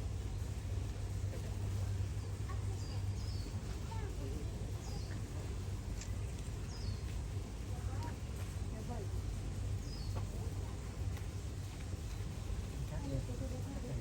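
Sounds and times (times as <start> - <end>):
distant visitors chattering: 0.0 - 14.0
steady low hum: 0.0 - 14.0.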